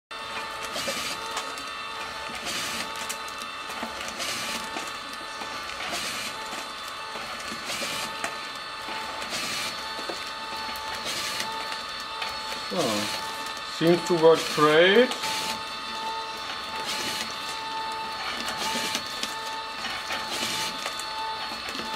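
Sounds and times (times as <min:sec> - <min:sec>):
label applicator motor whine: 0:00.1 - 0:21.9.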